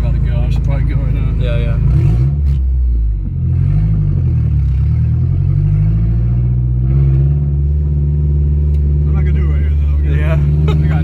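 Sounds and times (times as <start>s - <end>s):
loud car engine pulling away: 0.6s - 11.0s.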